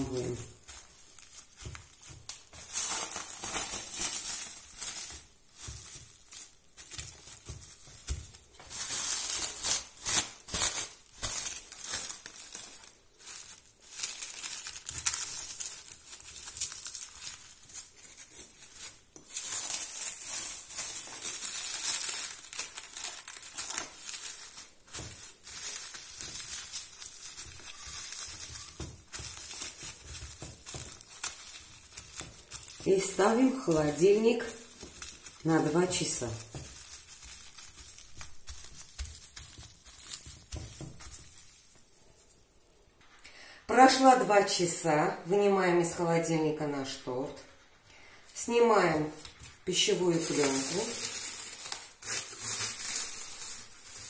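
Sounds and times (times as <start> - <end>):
cling film crinkling: 0.0 - 43.1, 49.1 - 54.0.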